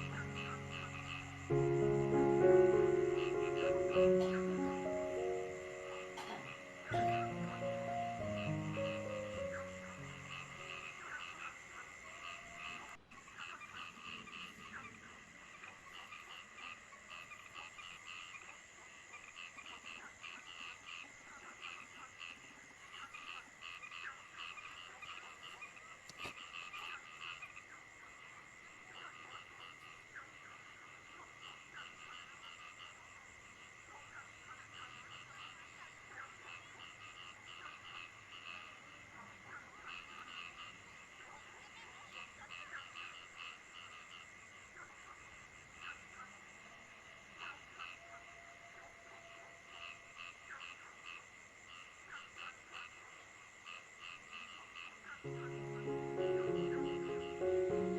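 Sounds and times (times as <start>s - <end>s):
frogs croaking: 0.0s - 57.9s.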